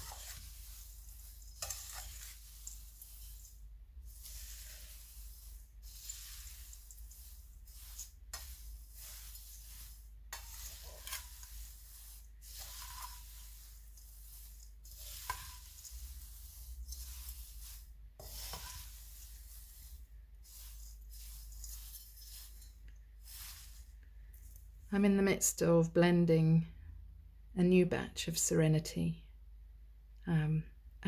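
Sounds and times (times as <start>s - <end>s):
dried herbs rustling in a bowl: 0.0s - 24.9s.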